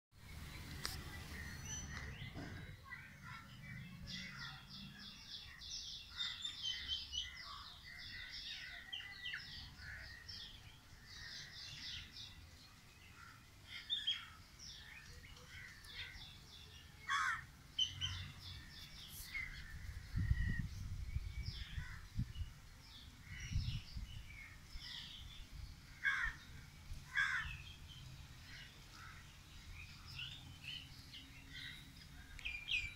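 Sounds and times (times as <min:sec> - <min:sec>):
birds chirping: 0:00.2 - 0:32.9.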